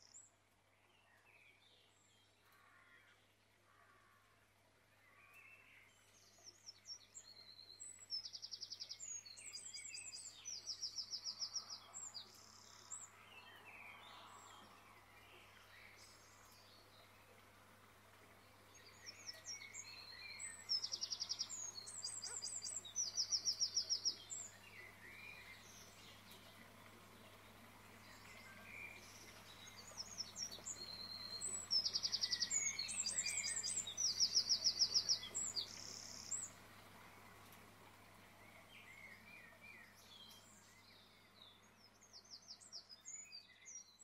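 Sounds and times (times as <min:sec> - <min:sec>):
faint steady low hum: 0:00.0 - 0:44.0
bird singing trills and chirps: 0:05.2 - 0:44.0.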